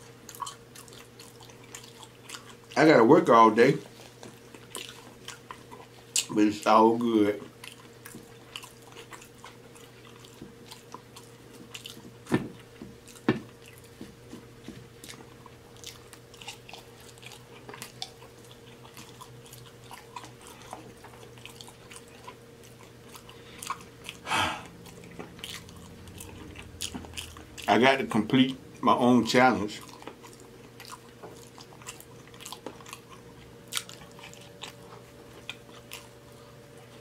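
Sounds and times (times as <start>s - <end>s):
chewing and mouth smacking: 0.0s - 37.0s
faint steady hum: 0.0s - 37.0s.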